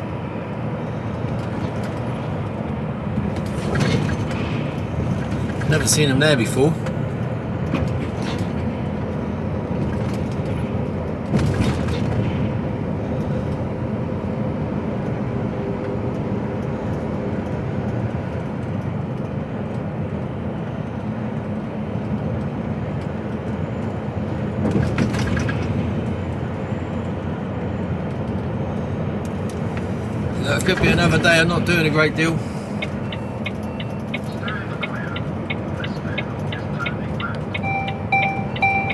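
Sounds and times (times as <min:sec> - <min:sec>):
road noise: 0:00.0 - 0:38.9
truck diesel engine running: 0:00.0 - 0:38.9.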